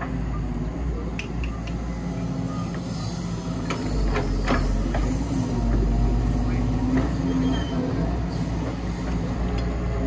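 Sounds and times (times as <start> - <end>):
excavator diesel engine running: 0.0 - 10.0.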